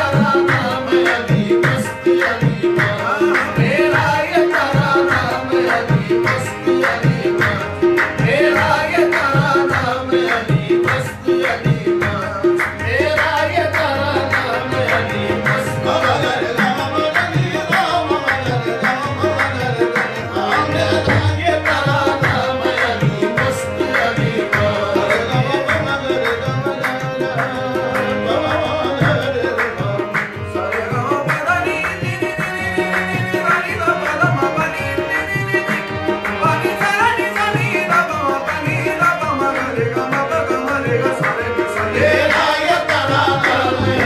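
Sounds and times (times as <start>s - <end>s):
harmoniums playing: 0.0s - 44.0s
people singing: 0.0s - 44.0s
tabla rhythm: 0.0s - 44.0s.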